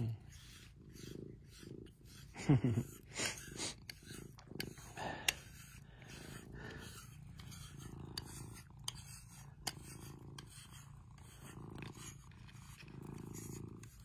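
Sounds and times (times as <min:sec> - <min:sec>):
brush bristles scratching fur: 0:00.0 - 0:14.0
cat purring: 0:00.0 - 0:14.0.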